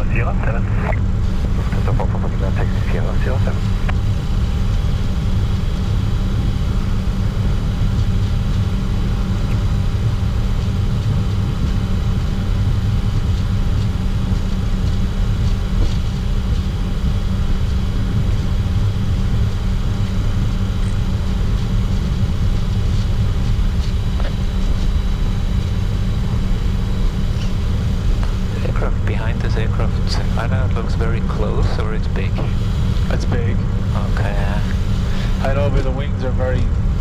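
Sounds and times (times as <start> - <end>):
faint high whine: 0.0 - 37.0
jet engines idling: 0.0 - 37.0.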